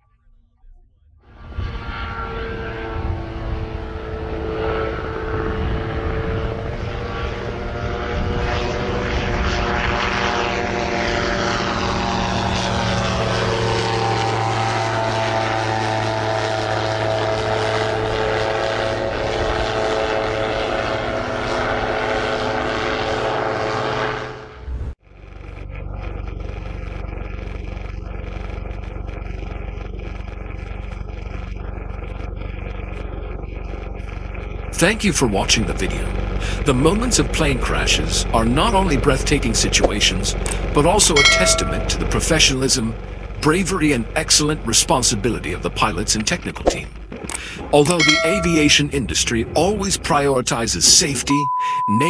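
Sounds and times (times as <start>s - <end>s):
propeller aircraft engines droning: 1.3s - 52.0s.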